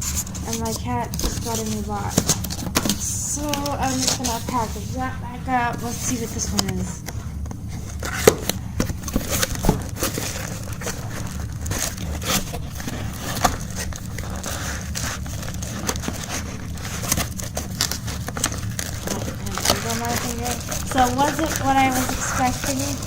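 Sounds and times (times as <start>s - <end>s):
wrapping crinkling and rustling: 0.0s - 23.0s.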